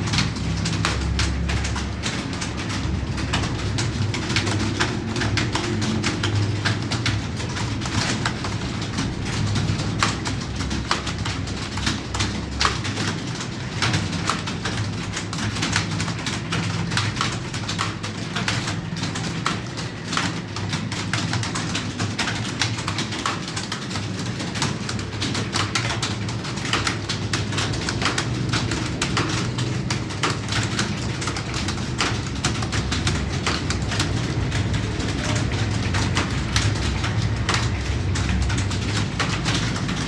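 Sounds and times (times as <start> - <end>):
keyboard typing: 0.0 - 40.0.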